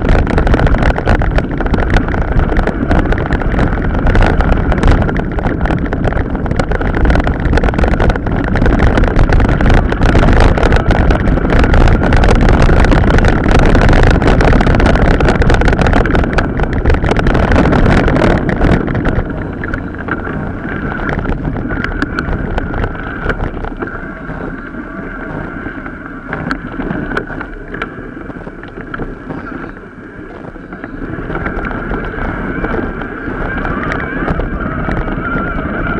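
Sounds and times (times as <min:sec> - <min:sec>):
bike rattling over rough track: 0:00.0 - 0:35.9
wind buffeting microphone: 0:00.0 - 0:35.9.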